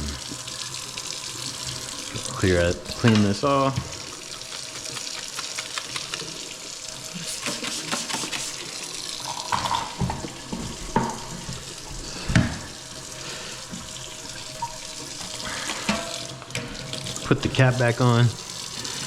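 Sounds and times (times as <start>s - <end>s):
faucet running into sink: 0.0s - 19.0s.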